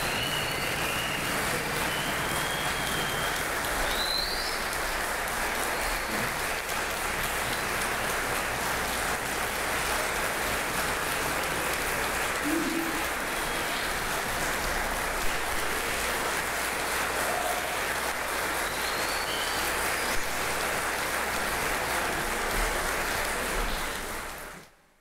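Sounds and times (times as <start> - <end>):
audience applauding: 0.0 - 24.7.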